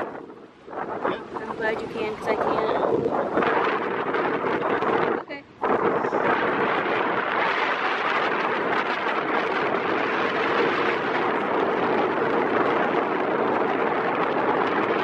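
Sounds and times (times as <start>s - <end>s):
strong wind roaring: 0.0s - 15.0s.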